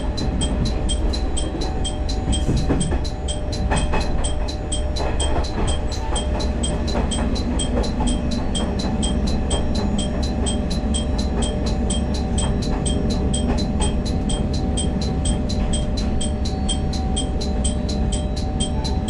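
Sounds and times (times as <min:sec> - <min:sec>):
diesel railcar engine rumble: 0:00.0 - 0:19.0
train track noise: 0:00.0 - 0:19.0.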